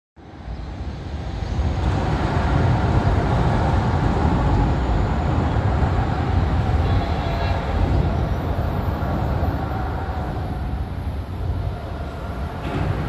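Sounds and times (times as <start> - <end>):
trains rumbling on rails: 0.2 - 13.0.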